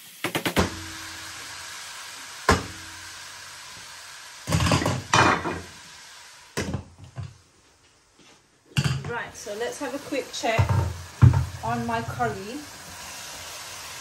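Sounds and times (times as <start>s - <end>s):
curry sizzling in a pot: 0.0s - 14.0s.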